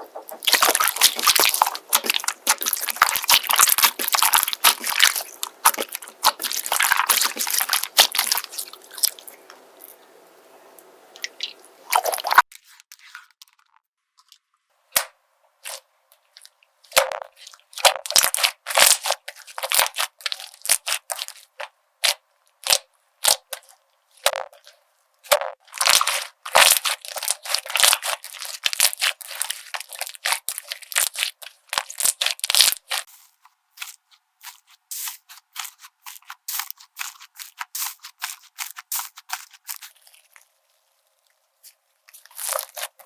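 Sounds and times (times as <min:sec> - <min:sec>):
crunchy slime crackling: 0:00.0 - 0:10.0, 0:11.2 - 0:13.6, 0:15.6 - 0:43.0.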